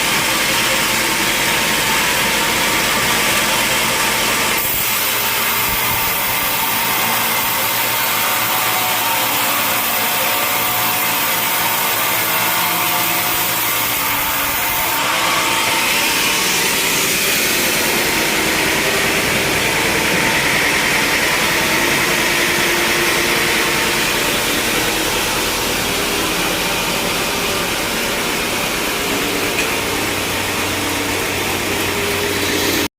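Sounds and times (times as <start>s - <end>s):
sawmill saw cutting log: 0.0s - 32.9s.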